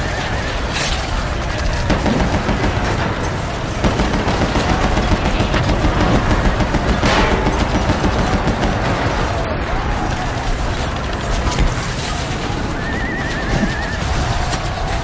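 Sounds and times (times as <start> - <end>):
rapid gunfire: 0.0 - 15.0.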